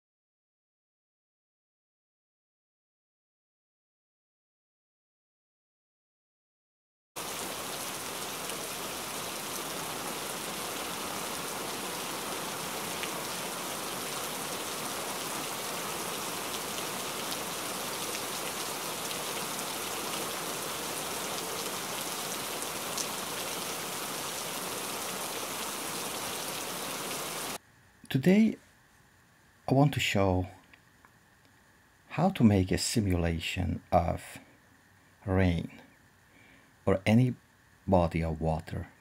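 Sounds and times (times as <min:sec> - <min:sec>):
steady rain hiss: 0:07.2 - 0:39.0.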